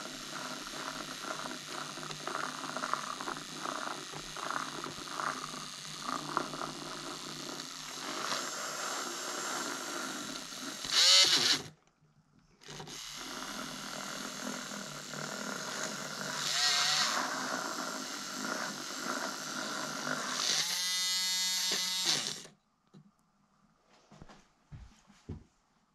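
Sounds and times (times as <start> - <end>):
milk frother motor whirring: 0.0 - 11.8, 12.6 - 22.6.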